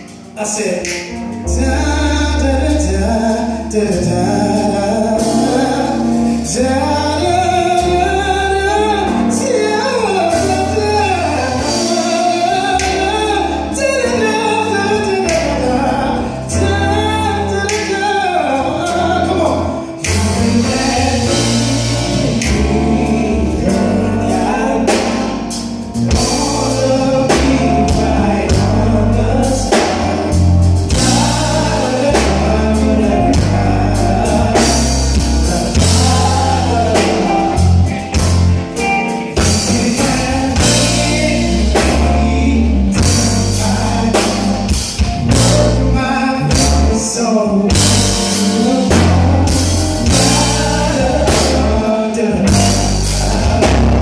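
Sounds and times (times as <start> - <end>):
man singing: 0.0 - 38.3, 39.1 - 54.0
bass and drums beat: 0.0 - 54.0
instrumental backing: 0.0 - 54.0.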